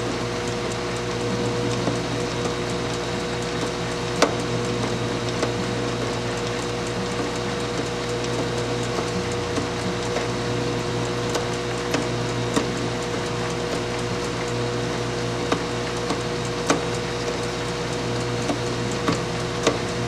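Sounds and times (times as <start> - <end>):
lathe motor hum: 0.0 - 20.0.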